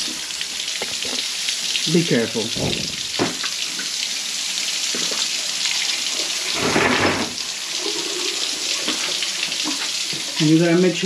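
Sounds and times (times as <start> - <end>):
water spraying onto floor: 0.0 - 10.8.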